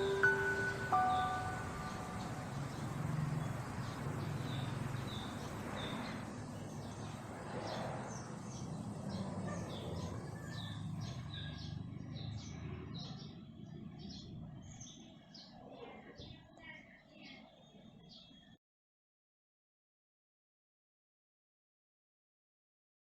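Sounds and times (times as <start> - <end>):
small birds chirping: 0.0 - 18.6.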